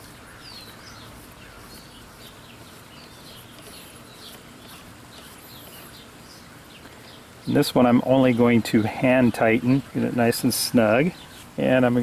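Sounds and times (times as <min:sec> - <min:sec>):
faint outdoor background: 0:00.0 - 0:12.0
small birds chirping: 0:00.0 - 0:12.0.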